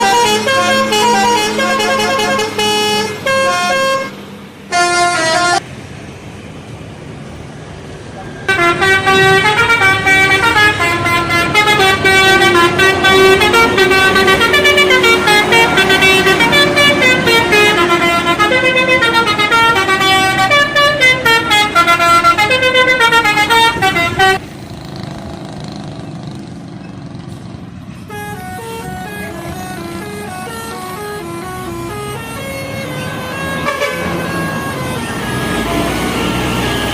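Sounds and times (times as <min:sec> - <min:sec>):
multi-tone bus air horns: 0:00.0 - 0:05.6, 0:08.4 - 0:24.4, 0:28.0 - 0:36.9.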